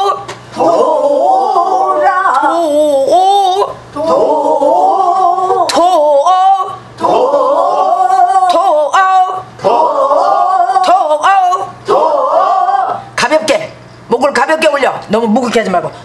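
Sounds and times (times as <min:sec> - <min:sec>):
person singing with wide vibrato: 0:00.0 - 0:13.2.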